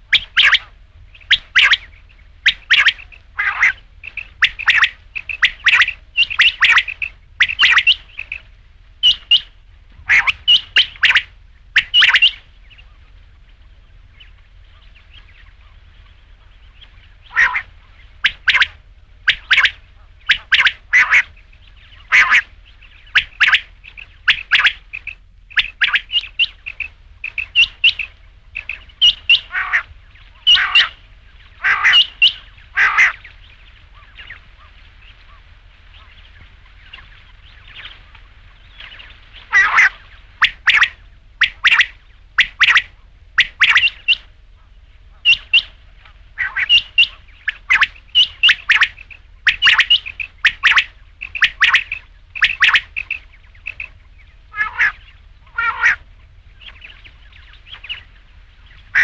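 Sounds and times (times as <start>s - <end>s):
faint steady hiss: 0.0s - 59.0s
quail calling: 0.0s - 59.0s.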